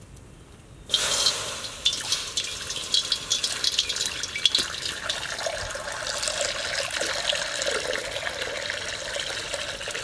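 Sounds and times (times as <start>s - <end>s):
water pouring into a wok: 0.9s - 10.0s.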